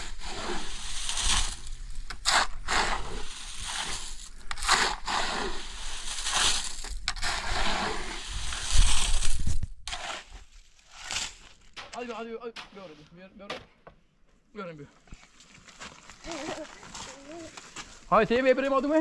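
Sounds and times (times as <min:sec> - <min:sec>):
shovel scraping gravel mix: 0:00.0 - 0:13.3, 0:15.2 - 0:18.2.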